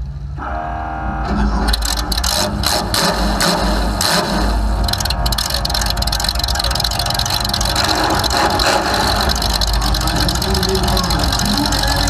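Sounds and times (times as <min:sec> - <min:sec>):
car engine running: 0:01.6 - 0:12.0.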